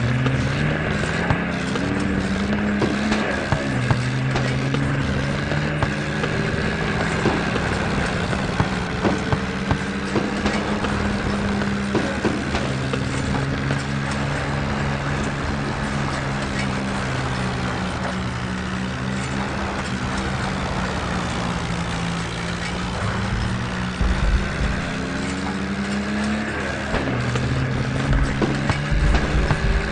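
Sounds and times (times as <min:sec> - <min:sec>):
sharp knocks and rattles: 0:00.0 - 0:29.9
tractor diesel engine running: 0:00.0 - 0:29.9.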